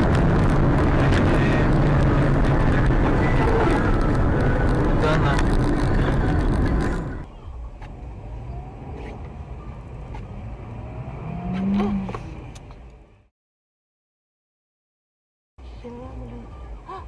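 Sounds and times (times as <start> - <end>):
car engine and road noise: 0.0 - 13.3, 15.6 - 17.0.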